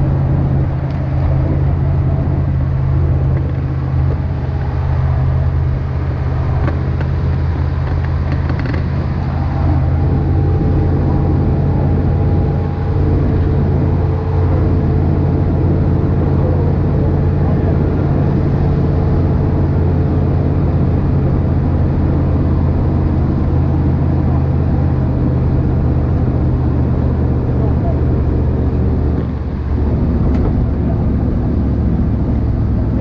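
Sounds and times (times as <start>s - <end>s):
road noise: 0.0s - 33.0s
vehicle engine hum: 0.0s - 33.0s.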